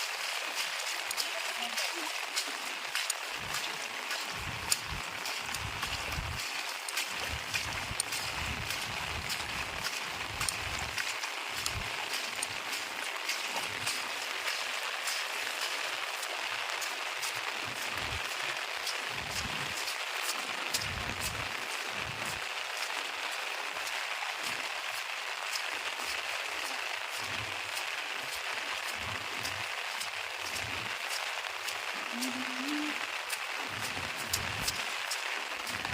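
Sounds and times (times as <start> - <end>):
raindrops ticking nearby: 0.0 - 35.9
steady rain falling: 0.0 - 35.9.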